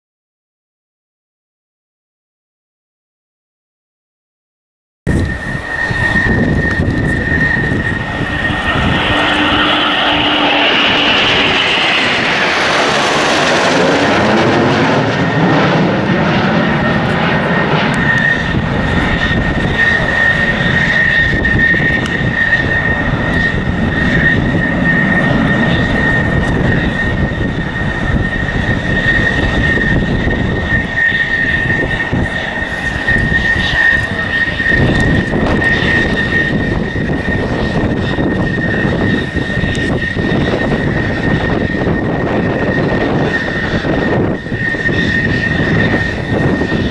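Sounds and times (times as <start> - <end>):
fighter jets roaring past overhead: 5.1 - 46.9
high jet whine: 5.1 - 46.9.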